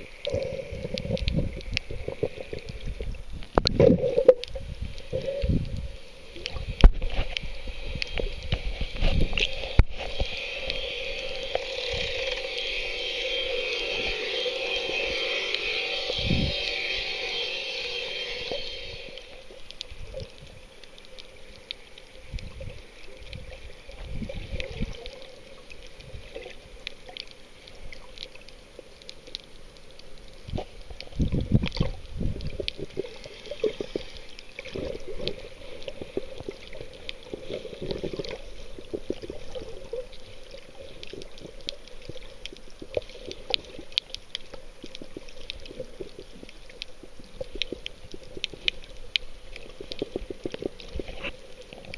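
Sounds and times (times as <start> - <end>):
crackle of sharp clicks: 0.0 - 12.9, 18.5 - 51.9
water sloshing and gurgling: 0.0 - 51.9.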